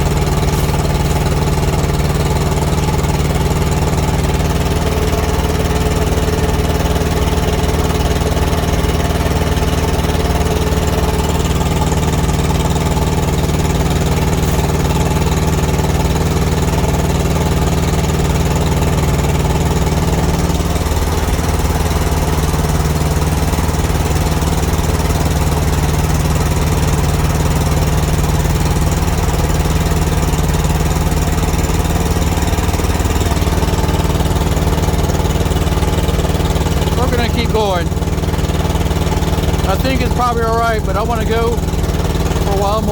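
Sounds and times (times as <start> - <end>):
diesel engine running rough: 0.0 - 42.9.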